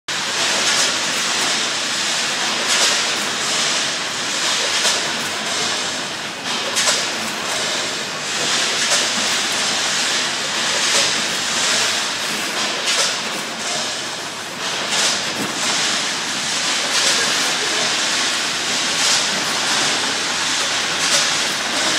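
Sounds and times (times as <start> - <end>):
machine rattling surges: 0.1 - 21.9
packaging machine hissing and clattering: 0.1 - 21.9.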